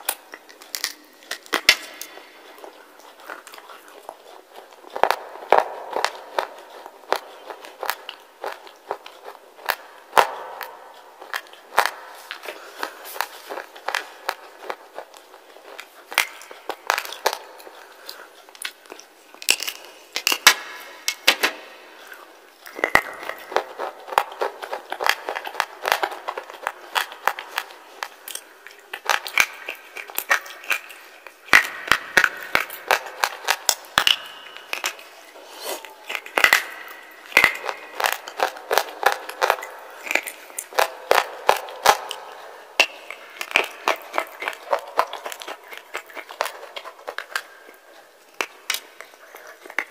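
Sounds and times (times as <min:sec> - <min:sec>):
slate being chewed crunching: 0:00.0 - 0:49.9.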